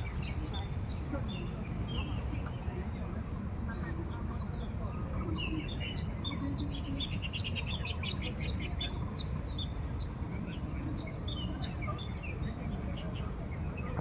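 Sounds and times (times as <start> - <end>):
small songbirds chirping: 0.0 - 14.0.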